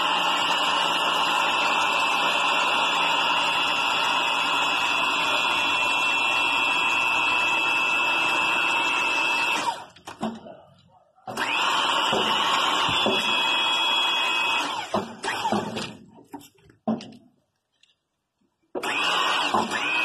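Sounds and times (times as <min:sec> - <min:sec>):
hydraulic pump whining: 0:00.0 - 0:10.7, 0:11.3 - 0:16.5, 0:18.7 - 0:20.0.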